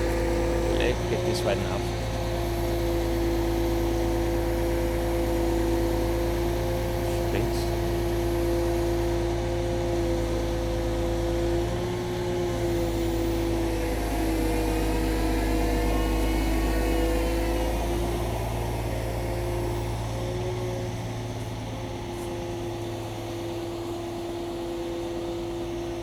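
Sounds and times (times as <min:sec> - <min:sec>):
crane diesel engine droning: 0:00.0 - 0:26.0.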